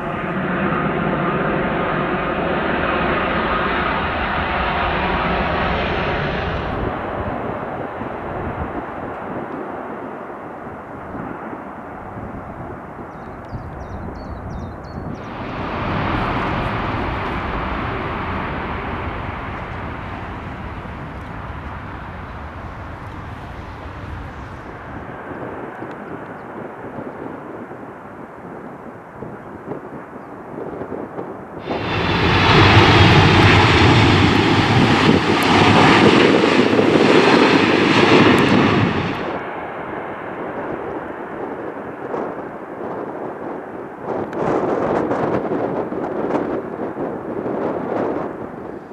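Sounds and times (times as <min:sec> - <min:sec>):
jet engines roaring: 0:00.0 - 0:13.5, 0:15.0 - 0:48.9.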